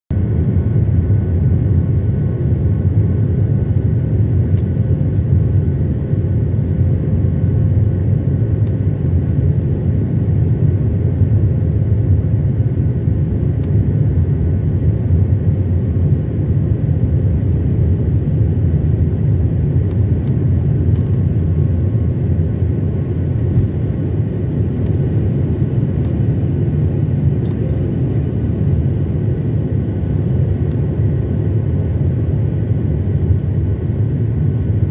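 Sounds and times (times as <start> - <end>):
jet engines deep rumble: 0.1 - 34.9
faint engine whining tones: 0.2 - 34.9.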